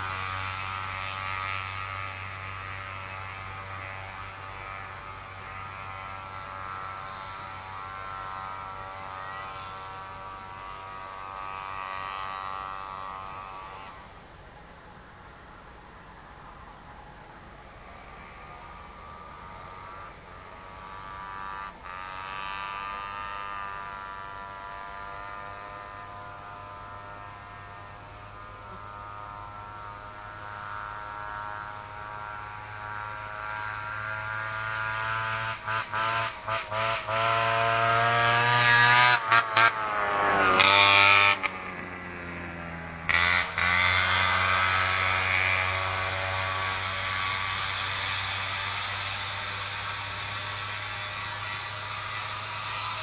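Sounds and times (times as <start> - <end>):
engine revving without exhaust: 0.0 - 14.4, 16.4 - 53.0.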